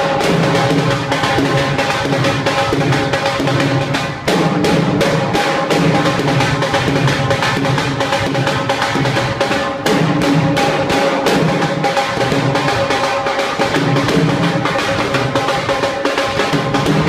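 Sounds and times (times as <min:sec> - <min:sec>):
fast dhol drumming: 0:00.0 - 0:17.0.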